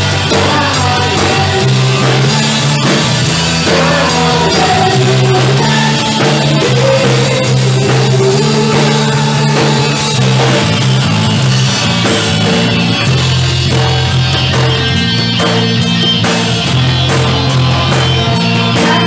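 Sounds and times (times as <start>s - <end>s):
rock worship band music: 0.0s - 19.0s.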